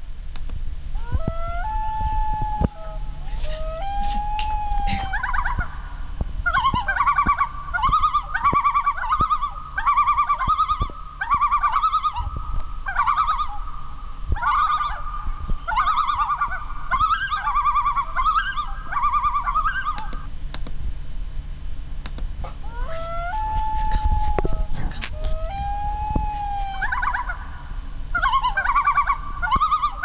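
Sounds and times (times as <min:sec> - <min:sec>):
steady high tone: 0:01.0 - 0:20.2, 0:22.6 - 0:30.0
recorded bird calls chattering: 0:01.0 - 0:20.6, 0:22.6 - 0:30.0.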